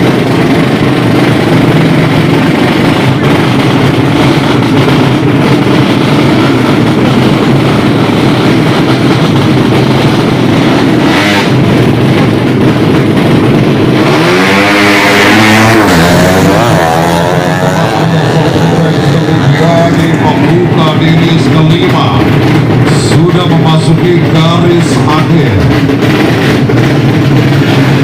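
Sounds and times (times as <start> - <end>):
motorcycle engine revving hard: 0.0 - 28.0
motorcycle engines running: 0.0 - 28.0.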